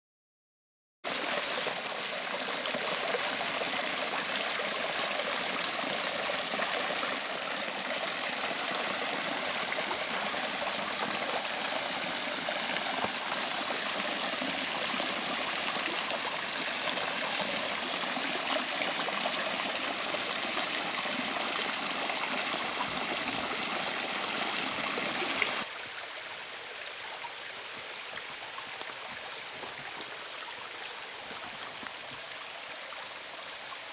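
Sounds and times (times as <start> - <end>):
stream rushing water: 1.1 - 33.9.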